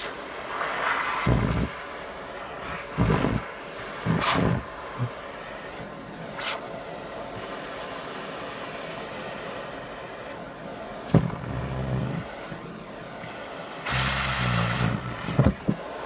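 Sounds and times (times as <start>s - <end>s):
vacuum cleaner running: 0.0s - 16.0s
low buzz of sock on nozzle: 1.2s - 10.4s, 11.0s - 12.6s, 13.4s - 16.0s.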